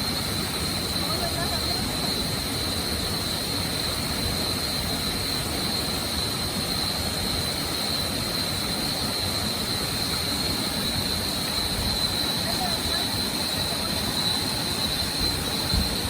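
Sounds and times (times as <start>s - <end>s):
high-pitched whine: 0.0s - 16.0s
waterfall roaring: 0.0s - 16.0s.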